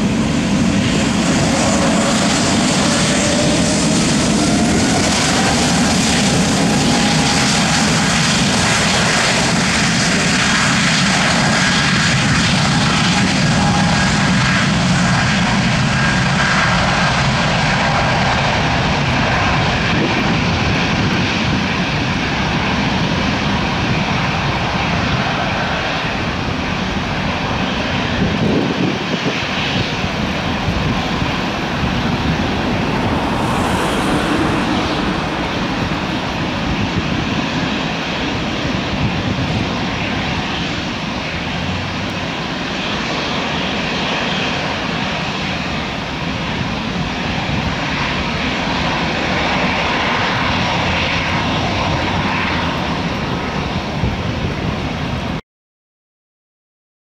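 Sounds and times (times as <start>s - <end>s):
jet engine roar: 0.0s - 55.4s.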